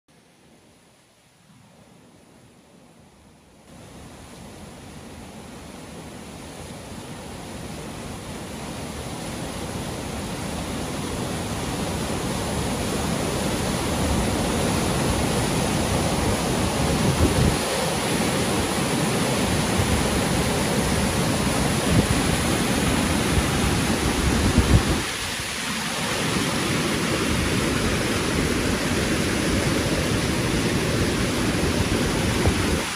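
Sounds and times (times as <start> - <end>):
water rushing over rocks: 3.7 - 32.9.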